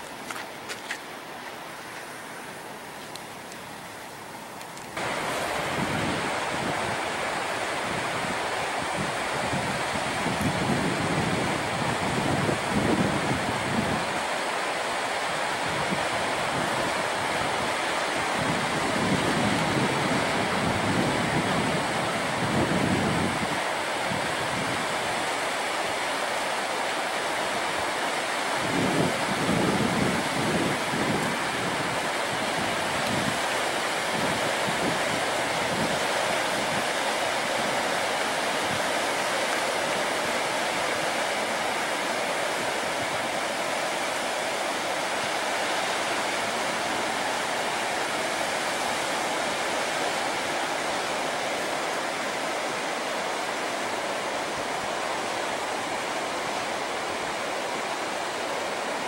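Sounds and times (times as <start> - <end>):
surf washing on beach: 0.0 - 59.0
wind gusting on microphone: 5.0 - 26.4, 27.4 - 59.0.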